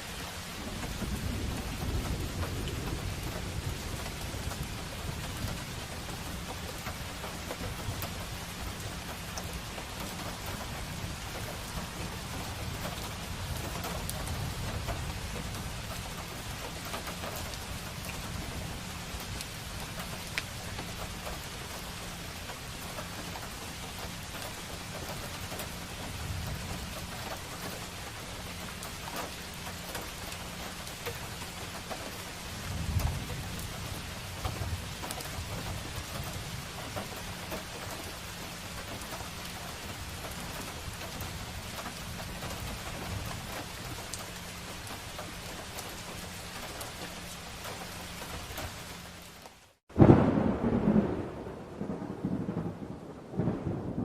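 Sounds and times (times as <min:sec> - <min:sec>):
rain falling on street: 0:00.0 - 0:54.0.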